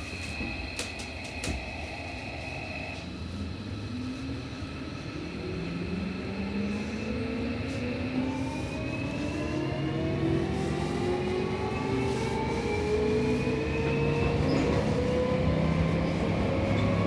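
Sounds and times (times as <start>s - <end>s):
steady high tone: 0.0s - 14.1s
train motor whine rising in pitch: 0.0s - 17.0s.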